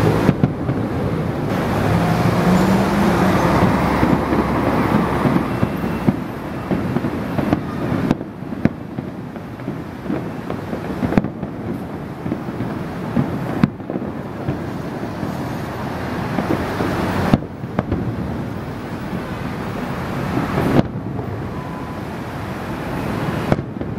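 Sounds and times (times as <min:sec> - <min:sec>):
fireworks rumble and crackle: 0:00.0 - 0:23.9
loud firework bangs: 0:00.0 - 0:23.9.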